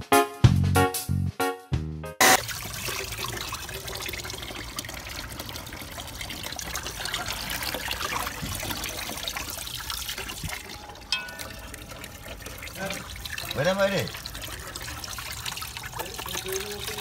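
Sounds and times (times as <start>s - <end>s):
tap water running into pot: 2.2s - 17.0s
water splashing: 2.2s - 17.0s.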